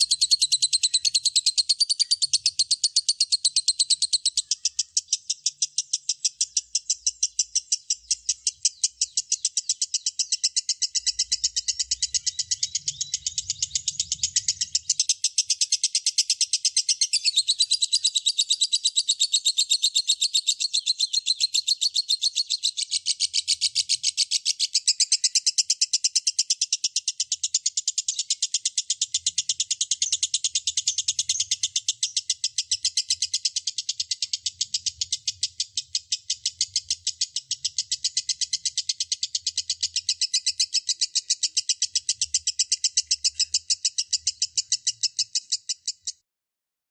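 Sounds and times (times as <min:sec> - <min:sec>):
lovebird chattering: 0:00.0 - 0:46.2.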